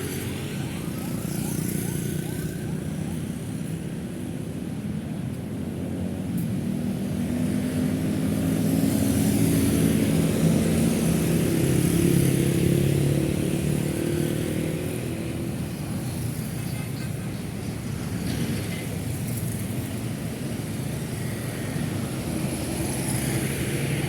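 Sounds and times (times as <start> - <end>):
cars and motorbikes passing: 0.0 - 24.0.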